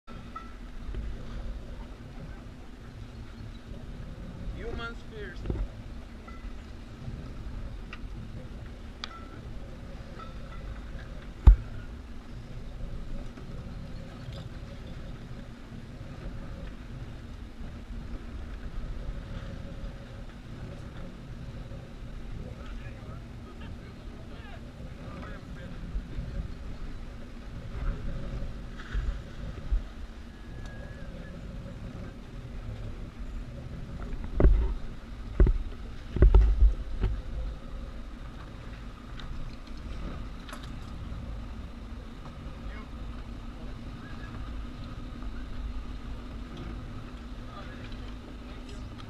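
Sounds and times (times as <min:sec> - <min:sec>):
boat engine idling: 0:00.0 - 0:49.0.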